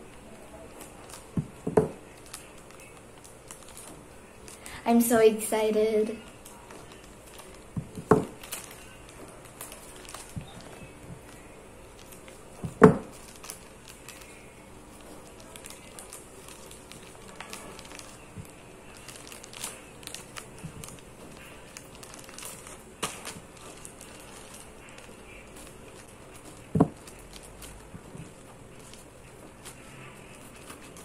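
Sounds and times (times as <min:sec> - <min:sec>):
plastic wrapping crinkling: 0:00.0 - 0:31.0.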